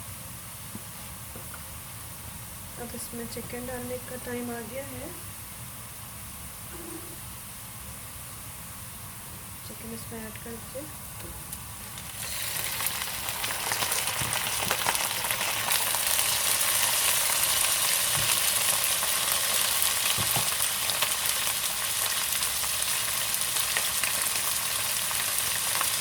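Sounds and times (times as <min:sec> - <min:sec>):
chicken sizzling in hot oil: 0:00.1 - 0:26.0.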